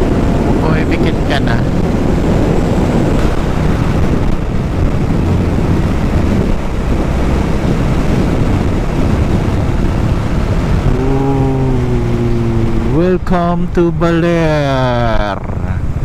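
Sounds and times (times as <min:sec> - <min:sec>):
road and engine noise: 0:00.0 - 0:16.0
wind rushing over microphone: 0:00.0 - 0:16.0.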